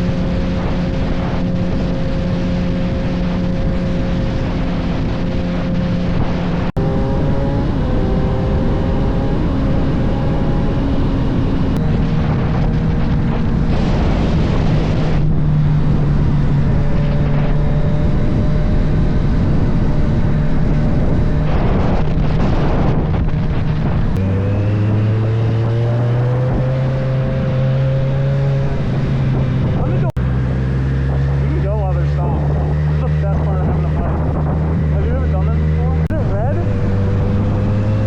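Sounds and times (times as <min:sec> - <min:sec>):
motorcycle engine running: 0:00.0 - 0:38.0
wind rush: 0:00.0 - 0:38.0.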